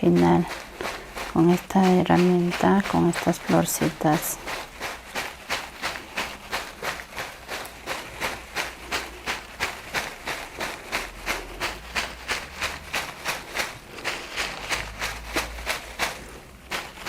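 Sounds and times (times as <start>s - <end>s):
massage tool patting body: 0.0s - 17.0s.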